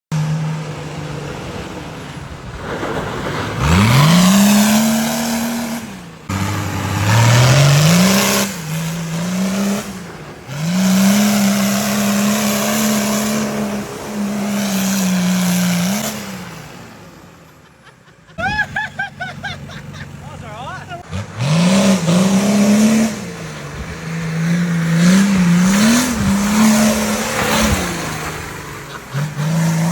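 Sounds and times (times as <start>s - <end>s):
vehicle engine revving: 0.1s - 17.8s, 18.4s - 29.9s.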